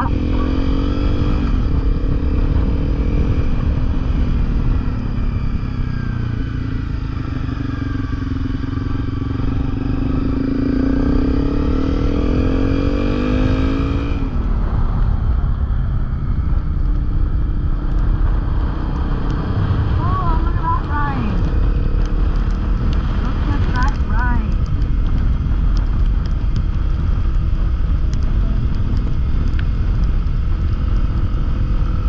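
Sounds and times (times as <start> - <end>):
heavy low rumble: 0.0 - 32.0
motorcycle engine accelerating: 0.0 - 32.0.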